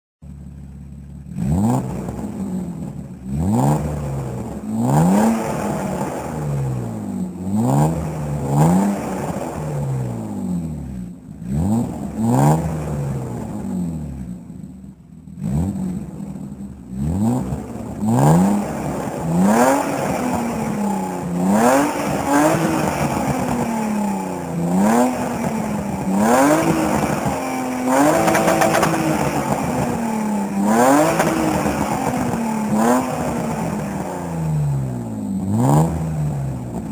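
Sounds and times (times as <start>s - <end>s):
car engine revving in blips: 0.2s - 36.9s.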